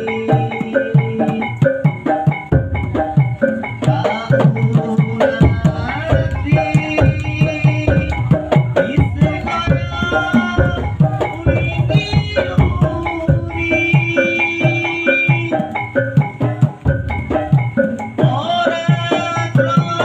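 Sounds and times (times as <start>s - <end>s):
hand drums beating: 0.0s - 20.0s.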